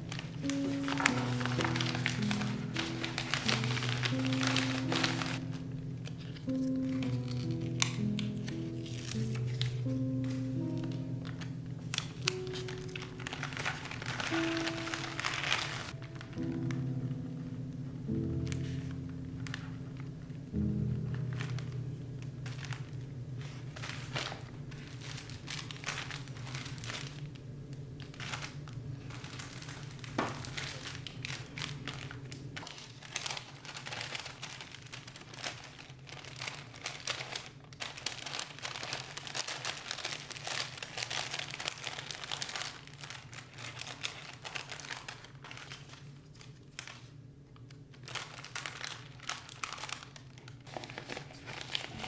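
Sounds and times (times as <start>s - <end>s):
packaging crinkling and rustling: 0.0s - 52.0s.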